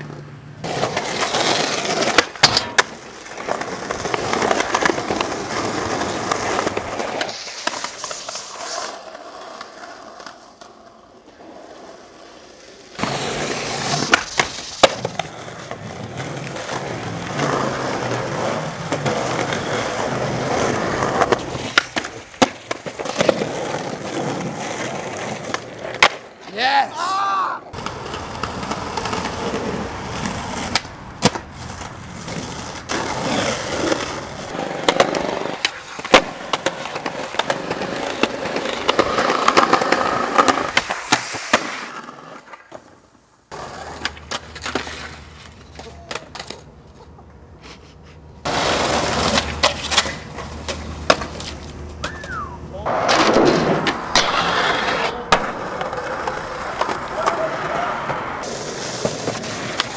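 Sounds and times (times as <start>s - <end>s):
skateboard clacks: 0.0s - 26.4s, 27.7s - 47.3s, 48.4s - 59.9s
skateboard wheels rolling on concrete: 0.0s - 59.9s.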